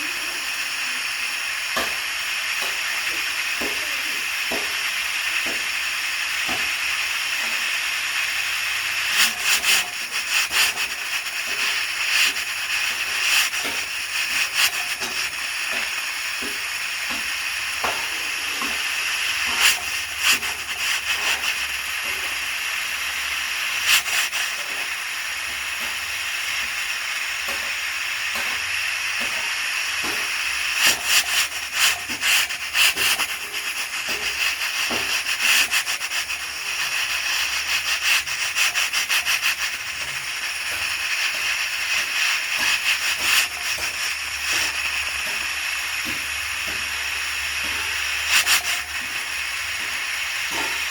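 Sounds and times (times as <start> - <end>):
pressure cooker hissing steam: 0.0 - 50.9.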